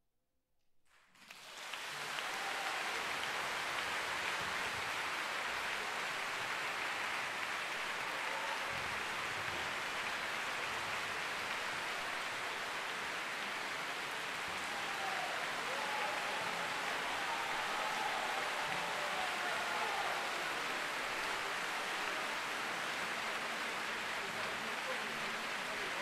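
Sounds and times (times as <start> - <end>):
large audience applauding: 0.9 - 26.0.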